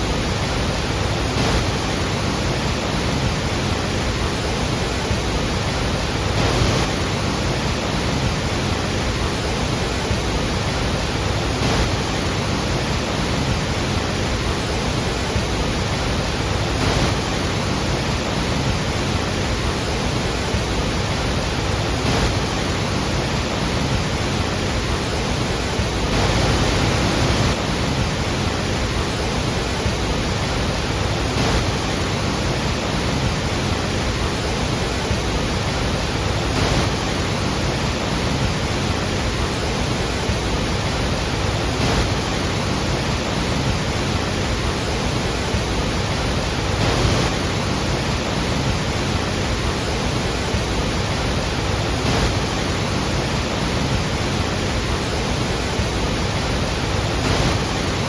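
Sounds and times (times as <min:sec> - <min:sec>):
heavy falling water rushing: 0:00.0 - 0:58.0.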